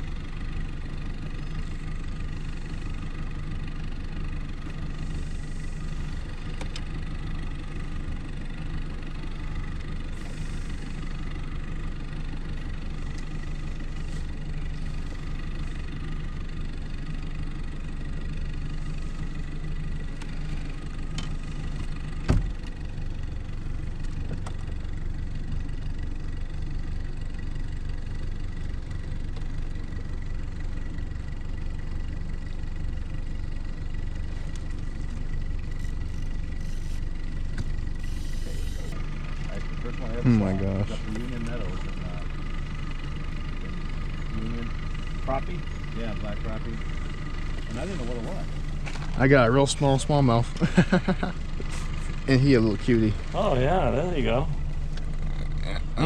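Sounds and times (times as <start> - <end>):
engine idling with high whine: 0.0 - 56.0.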